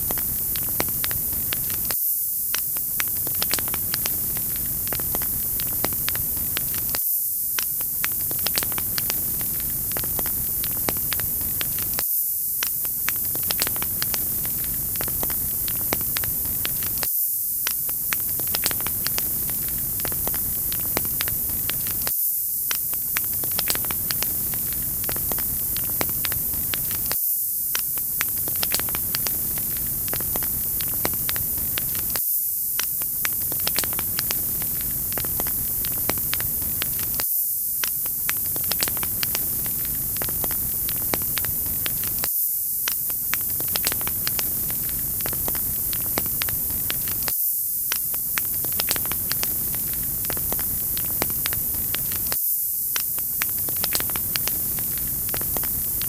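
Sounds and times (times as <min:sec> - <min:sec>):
wood fire crackling: 0:00.0 - 0:07.0, 0:07.6 - 0:12.0, 0:12.6 - 0:22.1, 0:22.7 - 0:27.2, 0:27.8 - 0:32.2, 0:32.8 - 0:37.2, 0:37.8 - 0:47.3, 0:48.0 - 0:52.4, 0:53.0 - 0:56.0.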